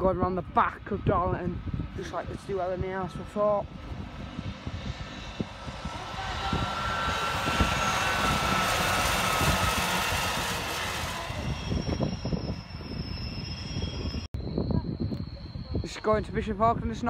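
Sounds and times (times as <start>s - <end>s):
train passing with rushing rumble: 0.0s - 14.3s
faint high whine: 0.0s - 17.0s.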